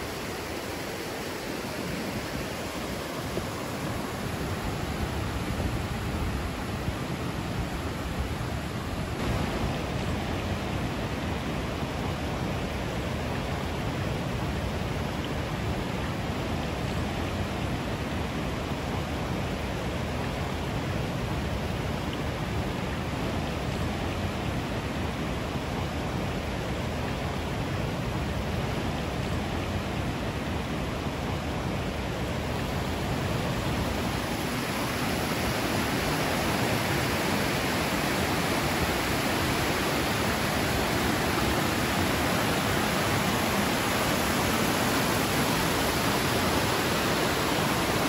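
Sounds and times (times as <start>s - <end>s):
water rushing over cascades: 0.0s - 48.0s.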